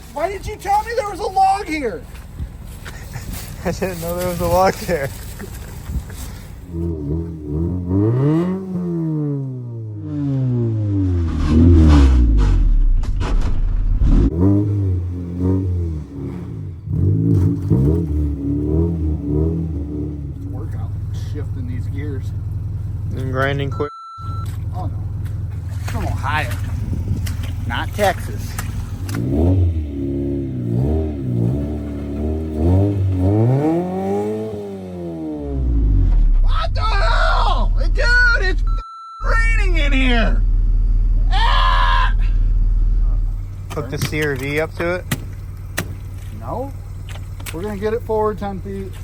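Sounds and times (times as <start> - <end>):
tires spinning in mud: 0.0 - 23.7, 24.3 - 38.2, 39.6 - 49.0
car engine revving: 0.0 - 38.5, 42.3 - 49.0.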